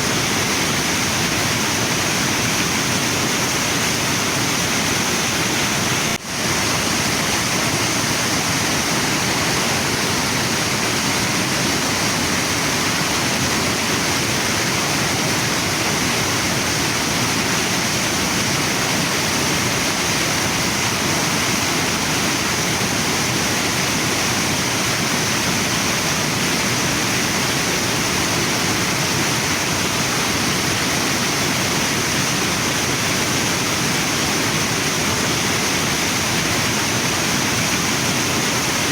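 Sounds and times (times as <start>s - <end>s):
waterfall and river rushing: 0.0s - 38.9s.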